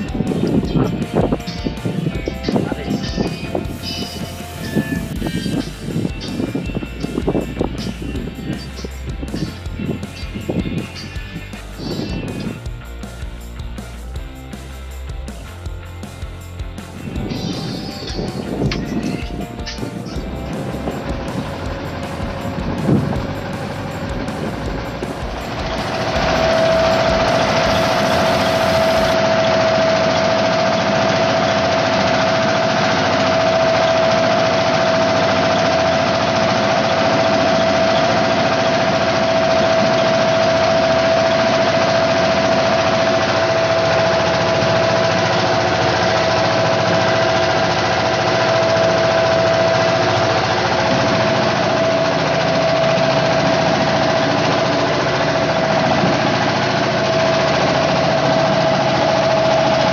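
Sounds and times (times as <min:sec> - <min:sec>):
boat engine running: 0:00.0 - 0:59.9
constant hum: 0:00.0 - 0:59.9.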